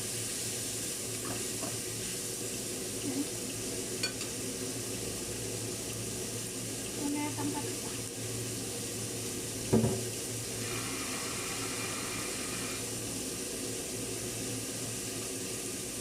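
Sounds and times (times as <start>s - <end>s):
chicken sizzling in hot fat: 0.0s - 16.0s.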